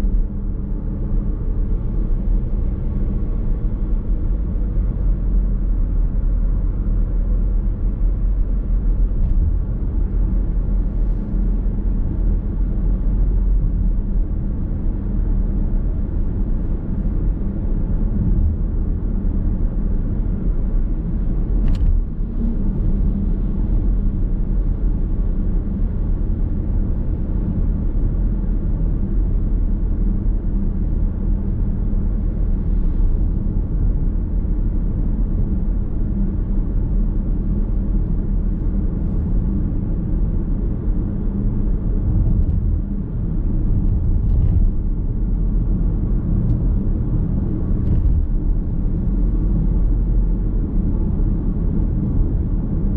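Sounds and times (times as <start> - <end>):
car road and tyre rumble: 0.0 - 52.9.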